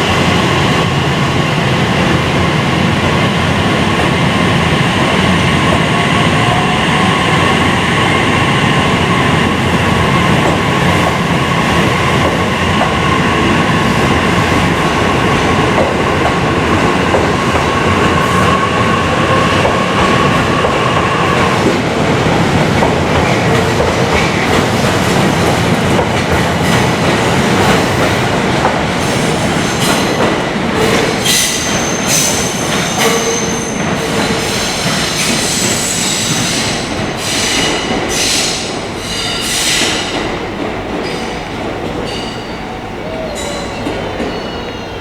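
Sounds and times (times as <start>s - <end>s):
train wheels clattering over track: 8.7s - 45.0s.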